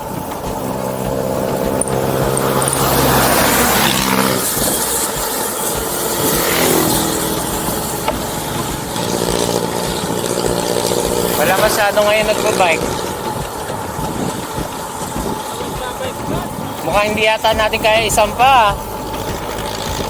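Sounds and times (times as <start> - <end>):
vehicle driving past: 0.0 - 16.4
traffic engine drone: 0.0 - 20.0.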